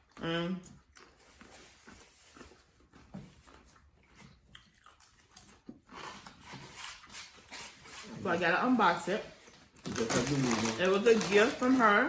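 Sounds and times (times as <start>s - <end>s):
chewing and crunching chips: 0.0s - 8.2s, 9.4s - 12.0s.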